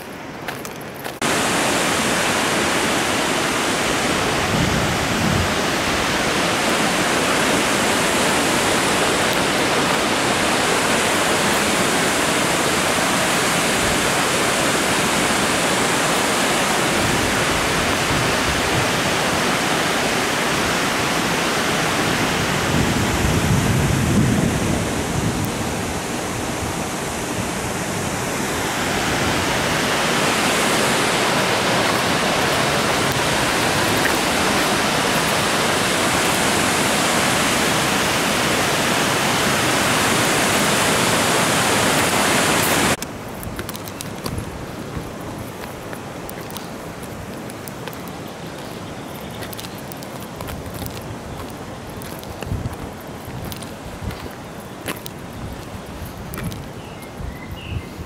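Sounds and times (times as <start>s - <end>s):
waterfall rushing roar: 0.0s - 57.7s.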